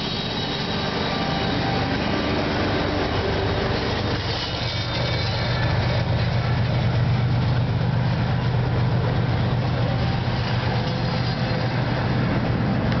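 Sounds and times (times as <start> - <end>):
freight train wheels rumbling on rail: 0.0 - 13.0.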